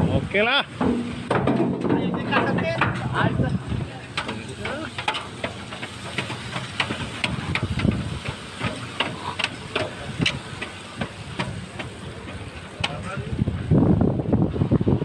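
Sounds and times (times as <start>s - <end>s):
metallic knocks and clanks: 0.7s - 13.3s
machinery low rumble: 0.8s - 15.0s.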